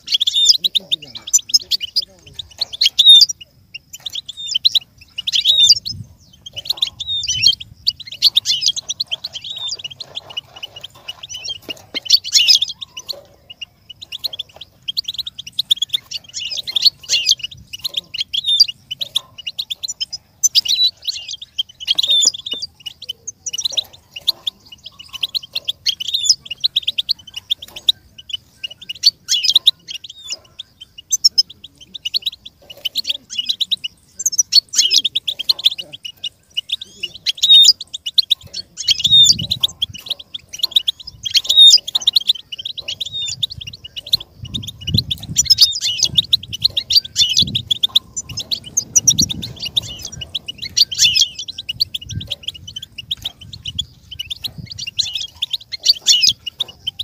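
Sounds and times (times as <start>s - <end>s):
goldfinch twittering and trills: 0.0s - 57.0s.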